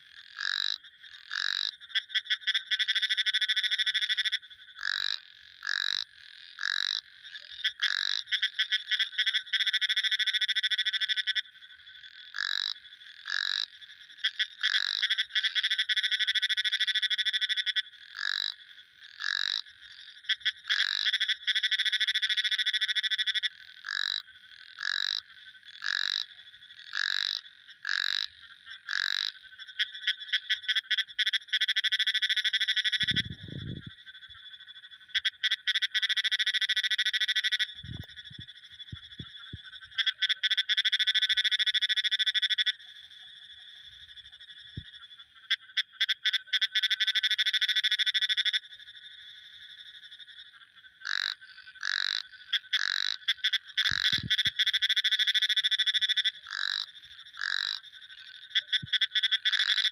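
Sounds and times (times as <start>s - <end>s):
frogs croaking and trilling: 0.0s - 59.9s.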